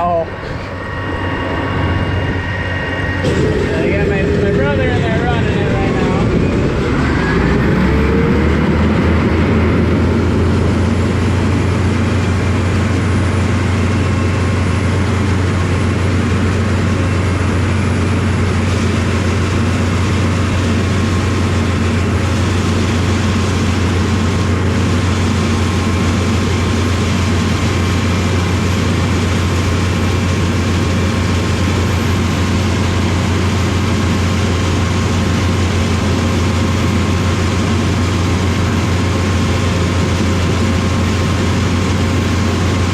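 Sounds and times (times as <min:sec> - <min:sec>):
diesel engine low drone: 0:00.0 - 0:42.9.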